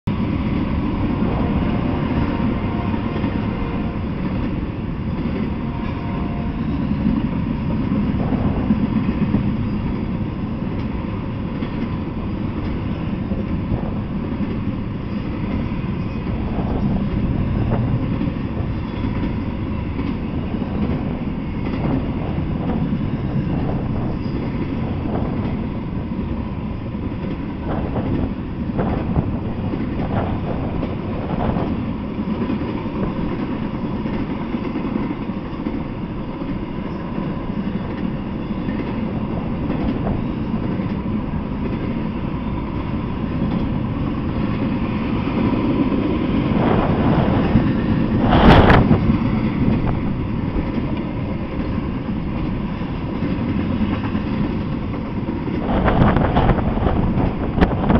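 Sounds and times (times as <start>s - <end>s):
train wheels rumbling on rail: 0.0s - 57.9s
train cars clanking: 0.1s - 57.9s.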